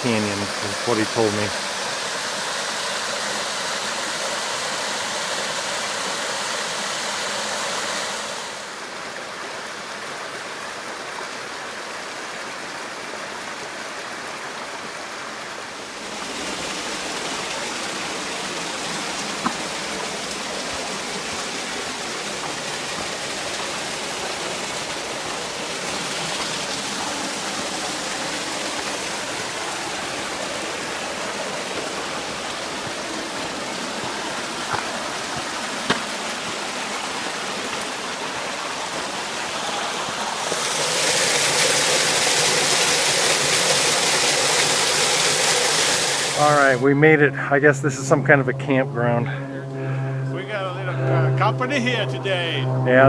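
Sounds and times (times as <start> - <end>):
creek water rushing over rocks: 0.0 - 47.3.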